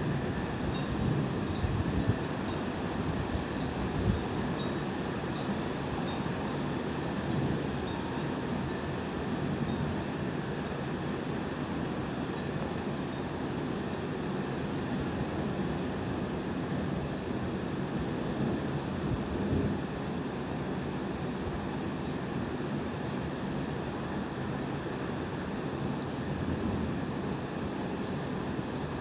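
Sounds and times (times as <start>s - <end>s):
cricket chirping: 0.0s - 19.2s, 19.9s - 29.0s
outdoor night hiss and rumble: 0.0s - 29.0s.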